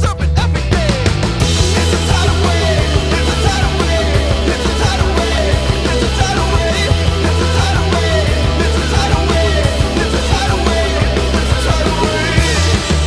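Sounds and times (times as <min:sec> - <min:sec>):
driving rock music: 0:00.0 - 0:13.0.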